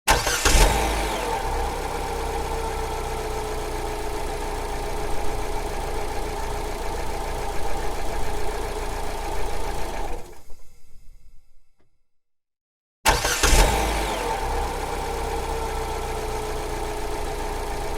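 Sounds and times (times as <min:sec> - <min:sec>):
car engine starting and idling: 0:00.1 - 0:10.9, 0:13.1 - 0:17.9.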